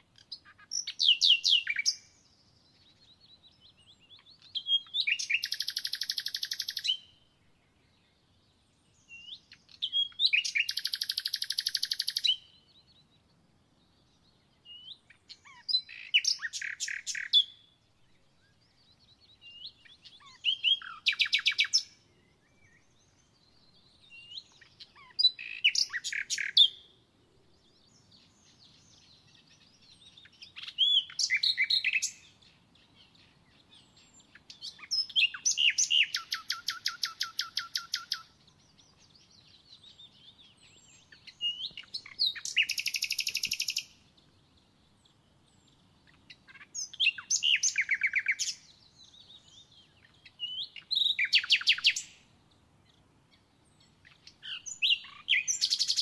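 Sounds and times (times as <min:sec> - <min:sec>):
songbird singing with trill: 0:00.0 - 0:56.0.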